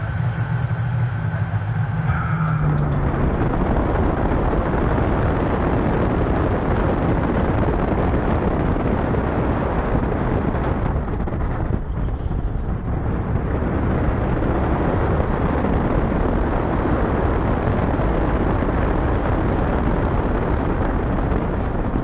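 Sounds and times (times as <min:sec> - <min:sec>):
roller coaster rumbling: 0:00.0 - 0:22.0.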